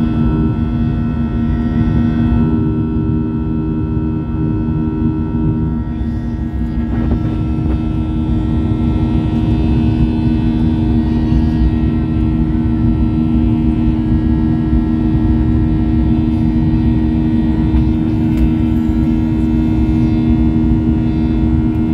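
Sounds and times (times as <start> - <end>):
jet engine drone in cabin: 0.0 - 21.9.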